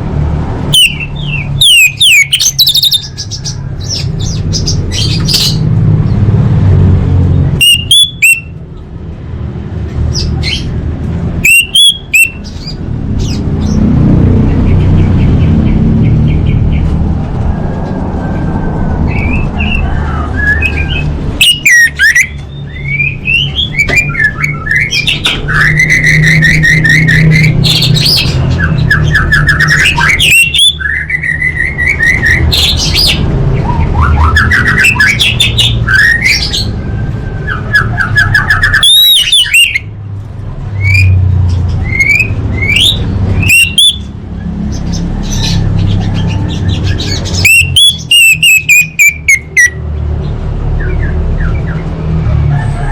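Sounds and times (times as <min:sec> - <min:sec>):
thrush chirping and trilling: 0:00.6 - 0:06.3, 0:07.5 - 0:08.6, 0:11.4 - 0:16.9, 0:19.0 - 0:40.0, 0:40.7 - 0:49.8.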